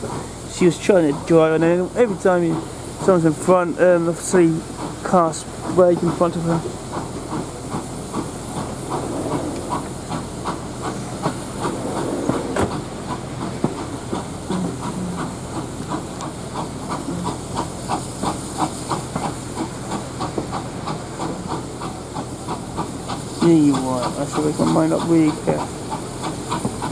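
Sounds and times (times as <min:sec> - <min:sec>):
steam locomotive chuffing: 0:00.0 - 0:26.9
steam locomotive hissing: 0:00.0 - 0:26.9.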